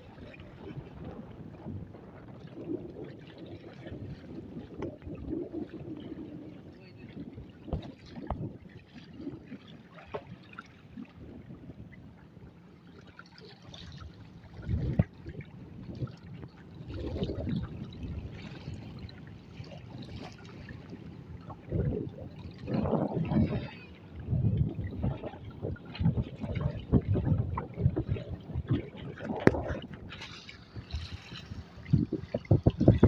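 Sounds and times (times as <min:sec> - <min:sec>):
river water lapping around boat: 0:00.0 - 0:33.0.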